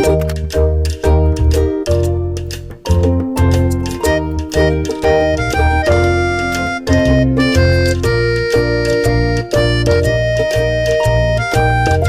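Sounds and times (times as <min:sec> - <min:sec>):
background music with bouncy bass: 0:00.0 - 0:12.0.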